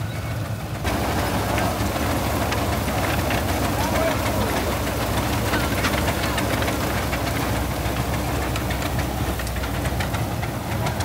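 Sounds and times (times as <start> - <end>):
tractor engine knocking under load: 0.4 - 11.0.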